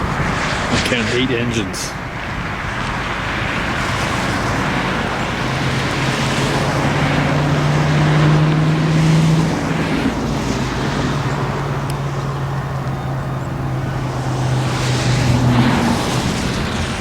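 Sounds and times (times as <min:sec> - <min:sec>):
constant rushing noise: 0:00.0 - 0:17.0
freight locomotives passing: 0:00.0 - 0:17.0.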